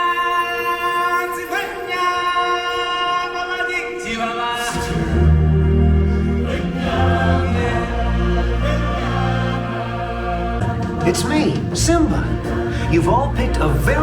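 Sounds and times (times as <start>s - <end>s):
stage show backing music: 0.0s - 14.0s.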